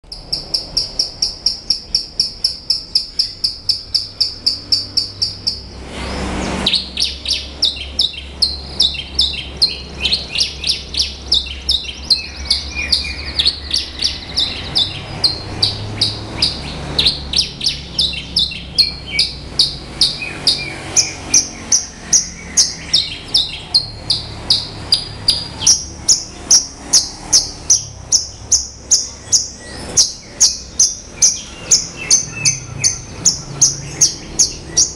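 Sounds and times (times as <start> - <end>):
bird singing high chirps: 0.1 - 34.9.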